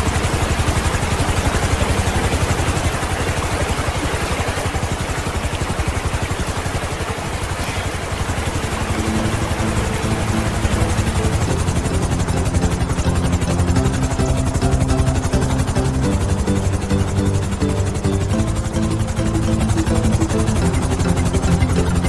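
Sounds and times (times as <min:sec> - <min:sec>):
helicopter rotor chopping: 0:00.0 - 0:22.0
low engine hum: 0:00.0 - 0:22.0.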